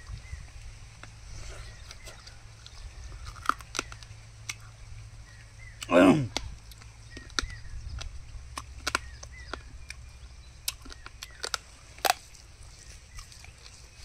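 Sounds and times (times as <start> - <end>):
chewing and crunching: 0.0 - 14.0
low steady hum: 0.0 - 14.0
small birds chirping: 0.0 - 14.0.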